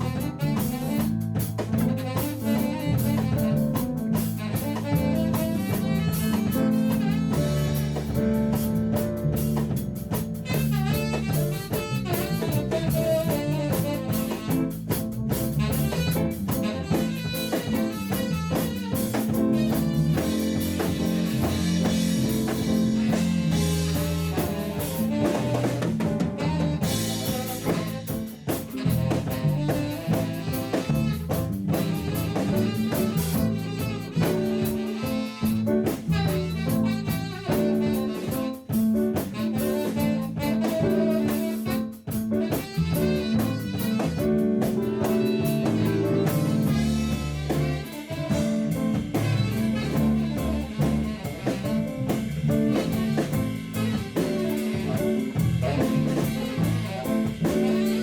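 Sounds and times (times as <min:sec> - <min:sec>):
band with drums: 0:00.0 - 0:58.0
tenor saxophone honking: 0:00.0 - 0:58.0.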